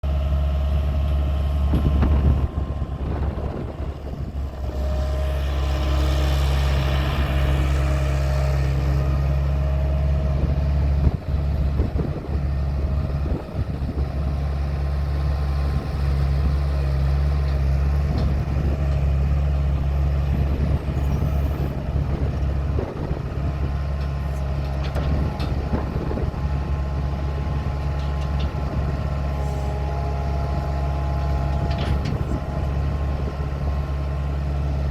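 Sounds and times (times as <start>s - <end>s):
skid steer engine running: 0.0s - 34.9s.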